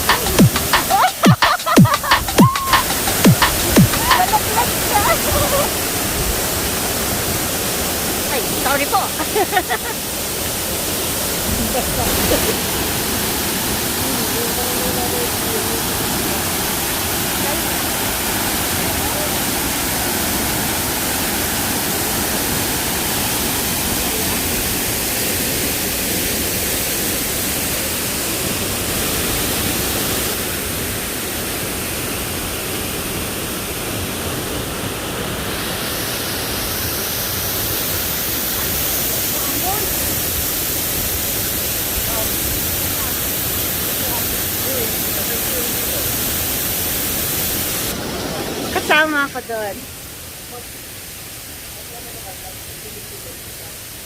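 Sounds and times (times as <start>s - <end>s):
water rushing from waterfall: 0.0s - 54.0s.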